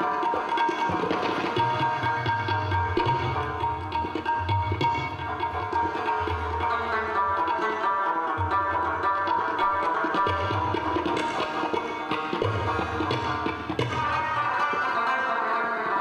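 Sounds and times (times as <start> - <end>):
plucked rubab strings: 0.0 - 16.0
tabla drumming: 0.0 - 16.0.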